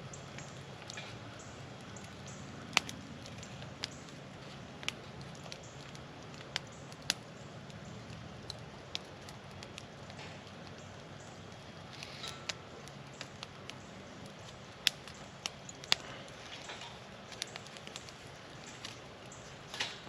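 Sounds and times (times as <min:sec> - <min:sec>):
campfire crackling and popping: 0:00.0 - 0:20.0
steady background noise: 0:00.0 - 0:20.0.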